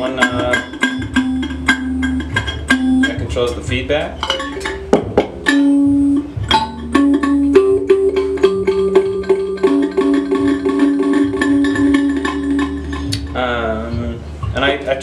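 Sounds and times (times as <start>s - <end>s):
electric thumb piano notes: 0.0s - 14.7s.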